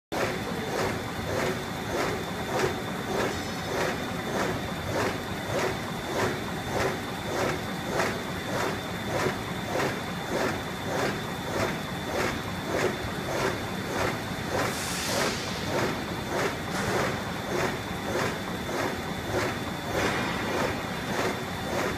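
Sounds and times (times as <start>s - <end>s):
high-pitched machine whine: 0.2s - 21.9s
machine mechanical clatter: 0.2s - 21.9s.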